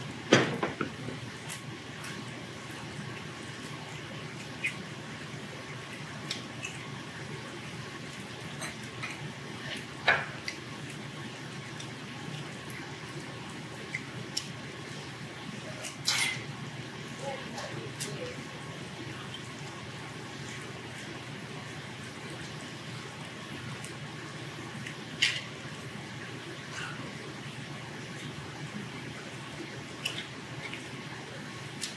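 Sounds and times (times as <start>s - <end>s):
small liquid sounds: 0.0s - 31.9s
restaurant room noise: 4.3s - 31.9s.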